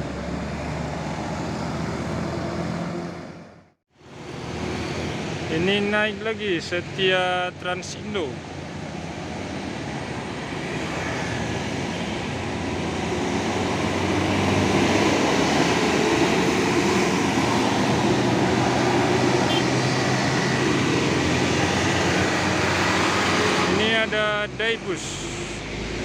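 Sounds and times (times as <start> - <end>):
bus engine climbing uphill: 0.0 - 26.0.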